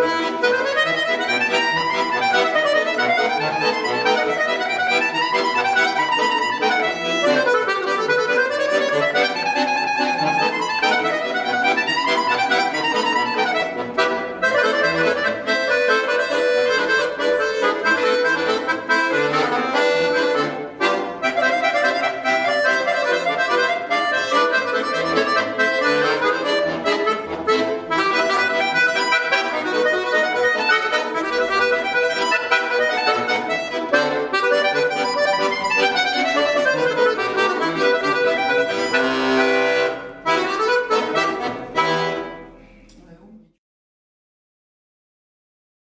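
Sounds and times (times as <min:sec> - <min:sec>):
button accordion playing solo: 0:00.0 - 0:42.6.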